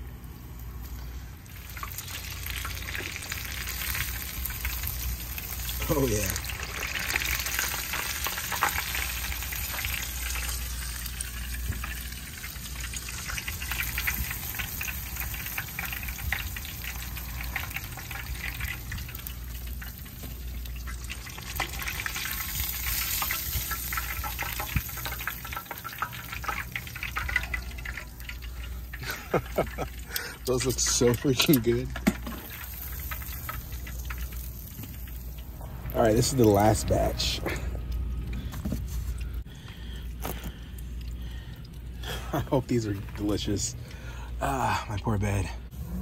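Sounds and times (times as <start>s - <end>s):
food deep-frying in hot oil: 0.0s - 38.5s, 39.2s - 44.1s.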